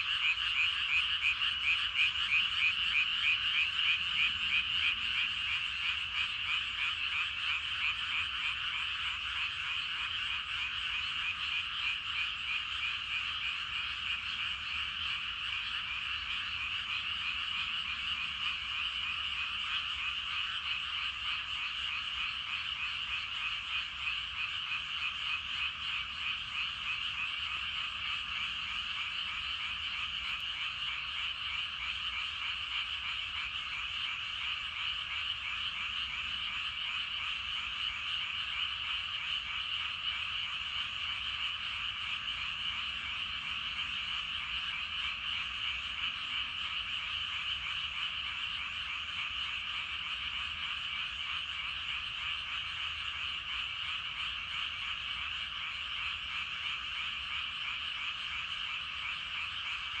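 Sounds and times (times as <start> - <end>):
chorus of frogs croaking: 0.0 - 60.0.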